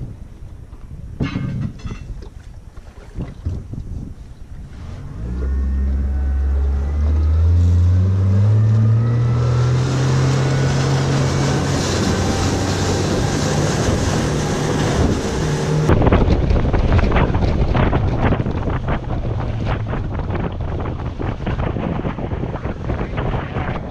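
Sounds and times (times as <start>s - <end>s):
wind buffeting microphone: 0.0s - 23.9s
outboard motor revving: 4.7s - 23.9s.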